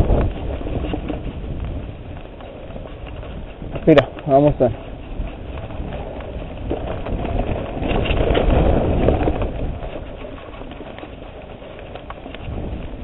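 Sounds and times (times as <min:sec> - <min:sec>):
bike rattling: 0:00.0 - 0:13.0
scattered clicks: 0:00.0 - 0:13.0
tyres rolling on dirt: 0:00.0 - 0:13.0
wind rushing over microphone: 0:00.0 - 0:13.0.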